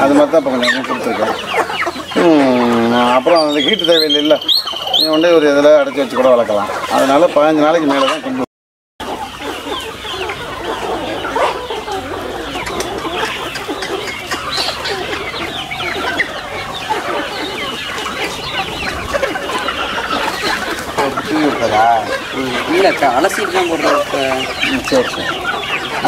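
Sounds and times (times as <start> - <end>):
chickens clucking and calling: 0.0 - 26.0.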